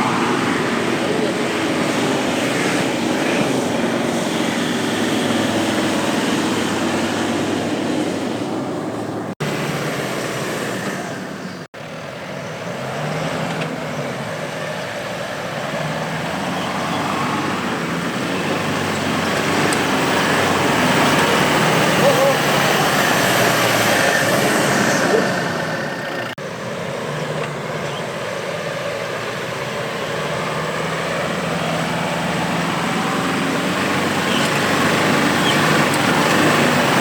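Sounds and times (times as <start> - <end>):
engine working hard under load: 0.0 - 37.0.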